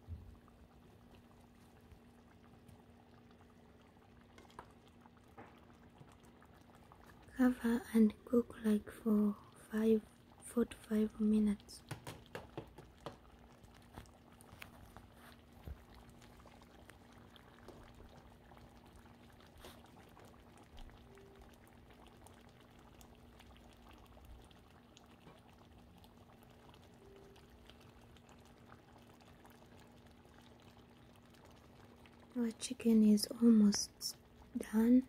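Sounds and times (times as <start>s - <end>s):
stew bubbling with small pops: 0.0s - 34.9s.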